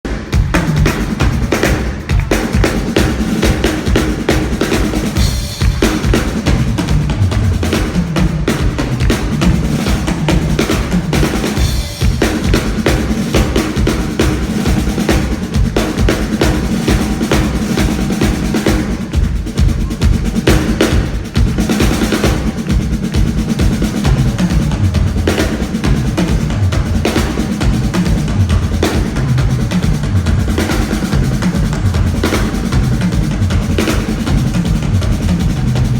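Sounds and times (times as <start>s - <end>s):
drum kit solo: 0.0s - 35.9s.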